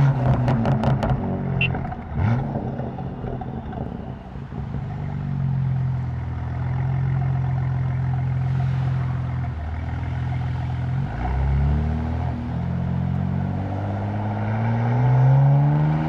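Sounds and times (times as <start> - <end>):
car engine under steady throttle: 0.0 - 16.0.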